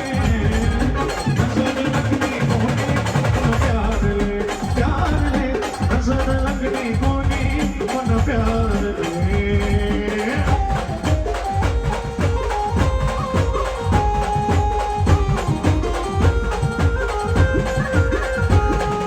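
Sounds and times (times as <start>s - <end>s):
drum beats: 0.0s - 19.0s.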